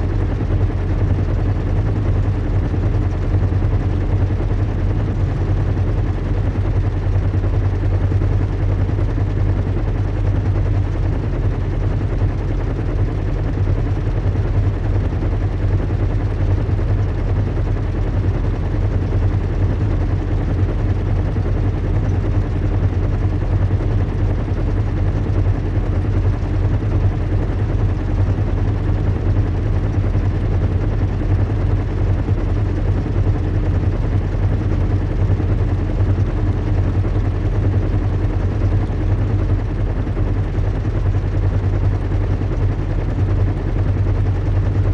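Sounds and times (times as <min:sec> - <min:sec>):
deep engine hum: 0:00.0 - 0:44.9.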